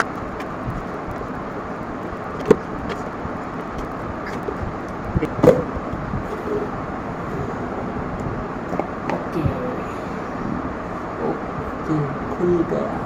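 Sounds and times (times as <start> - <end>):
rushing background noise: 0.0 - 13.0.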